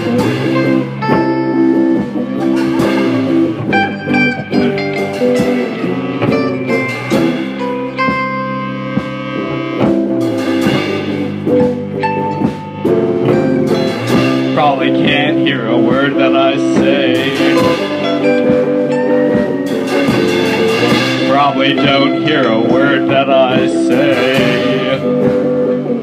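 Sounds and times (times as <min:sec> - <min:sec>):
drum kit: 0:00.0 - 0:26.0
electric guitar playing: 0:00.0 - 0:26.0.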